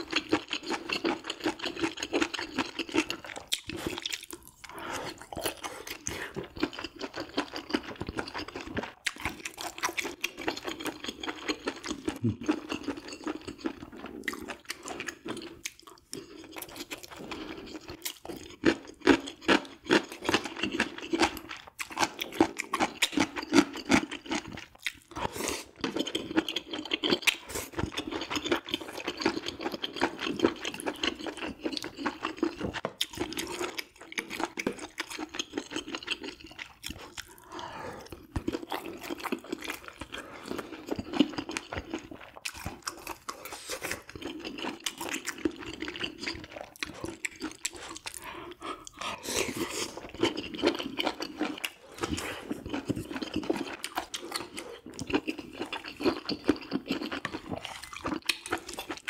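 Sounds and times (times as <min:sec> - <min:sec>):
wet chewing and mouth smacks: 0:00.0 - 0:59.0.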